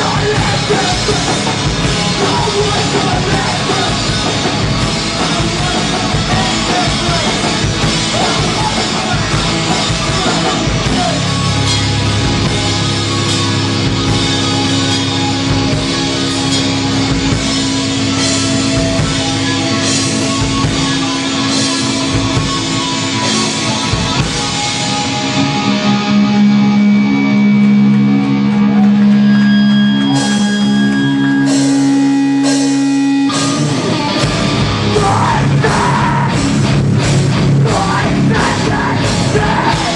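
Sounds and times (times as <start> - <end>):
bass guitar: 0.0 - 39.9
distorted electric guitar: 0.0 - 39.9
drums: 0.0 - 39.9.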